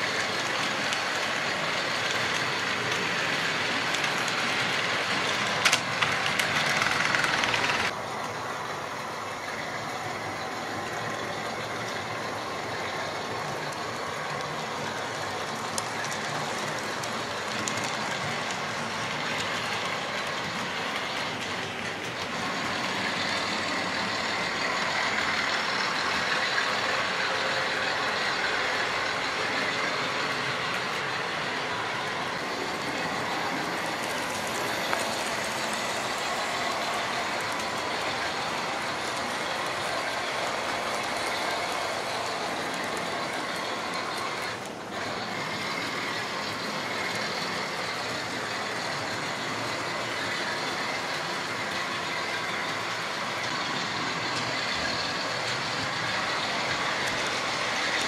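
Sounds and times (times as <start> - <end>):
model train motors whirring: 0.0 - 58.0.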